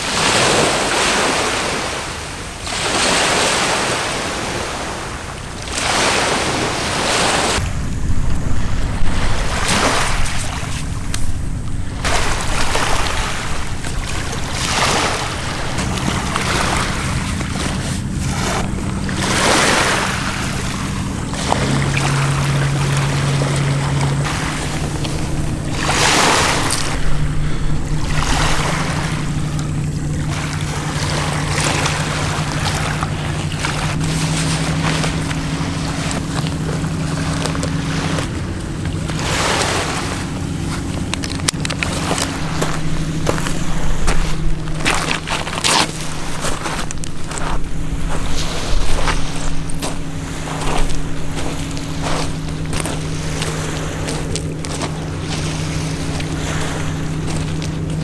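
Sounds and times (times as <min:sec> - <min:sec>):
waves washing on pebbly shore: 0:00.0 - 0:58.0
wind buffeting microphone: 0:00.0 - 0:58.0
steady low hum: 0:03.8 - 0:58.0.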